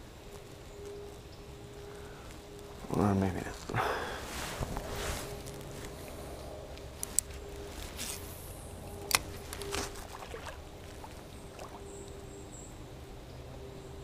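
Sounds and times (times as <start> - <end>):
faint water and air noise: 0.0 - 14.0.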